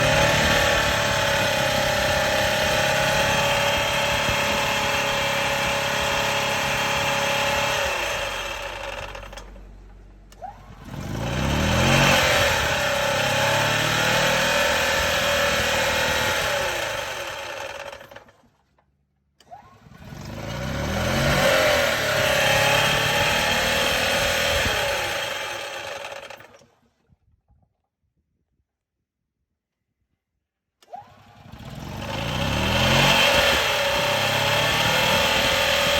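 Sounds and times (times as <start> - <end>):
golf cart engine revving: 0.0 - 18.4, 19.4 - 26.7, 30.8 - 35.9
clutch grinding: 0.0 - 18.6, 19.4 - 26.7, 30.8 - 35.9.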